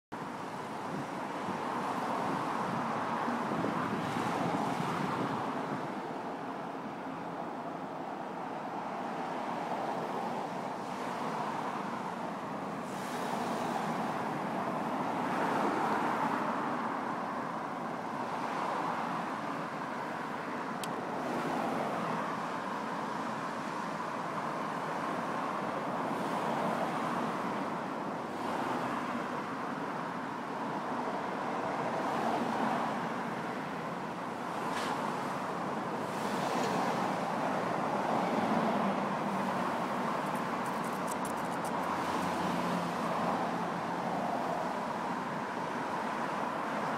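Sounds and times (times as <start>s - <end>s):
cars passing on road: 0.1s - 46.9s.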